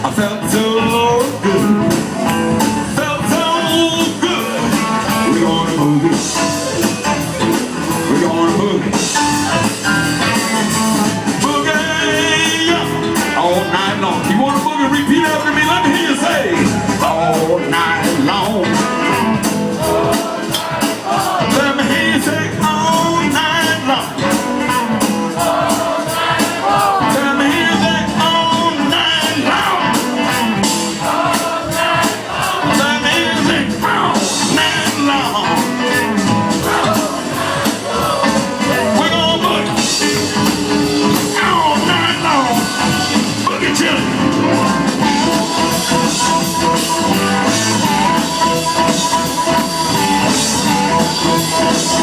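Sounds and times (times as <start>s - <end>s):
bending lead guitar lines: 0.0s - 52.0s
blues band playing boogie: 0.0s - 52.0s
drums fast beat: 0.0s - 52.0s.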